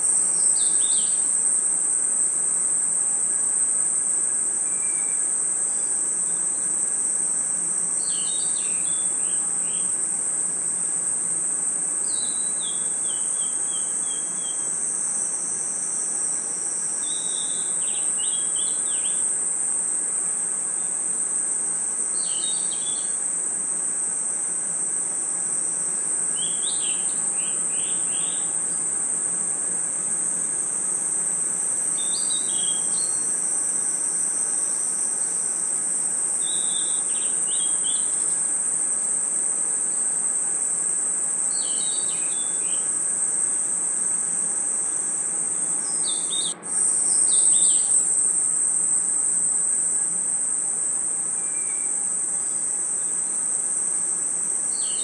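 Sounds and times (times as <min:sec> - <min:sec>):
cricket chirps: 0:00.0 - 0:55.0
insects night chorus: 0:00.0 - 0:55.0.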